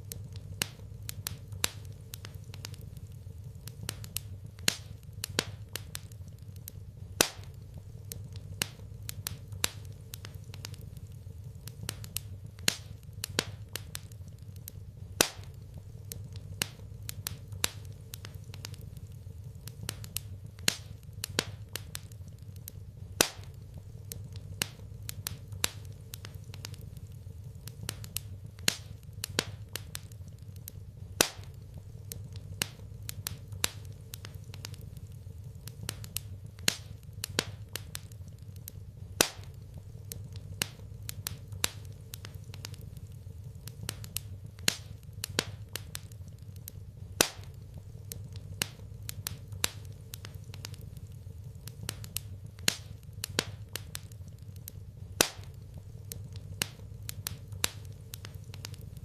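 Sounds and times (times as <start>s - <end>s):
low steady hum: 0.0s - 59.0s
wood fire crackling and popping: 0.0s - 59.0s.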